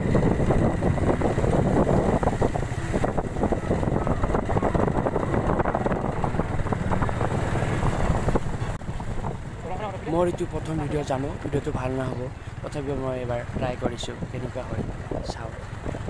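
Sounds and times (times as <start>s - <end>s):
motorcycle running: 0.0s - 16.0s
wind noise on microphone: 0.0s - 16.0s.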